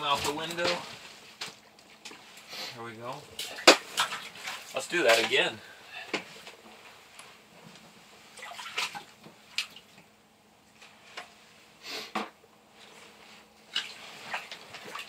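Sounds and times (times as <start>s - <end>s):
water splashing and sloshing: 0.0s - 7.5s, 8.1s - 11.4s, 12.7s - 15.0s.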